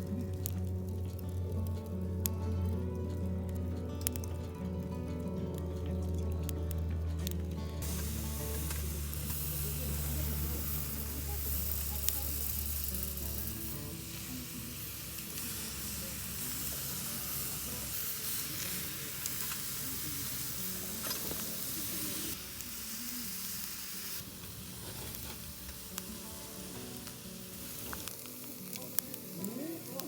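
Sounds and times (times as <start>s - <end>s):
food sizzling on a grill: 0.0s - 3.0s, 7.8s - 30.0s.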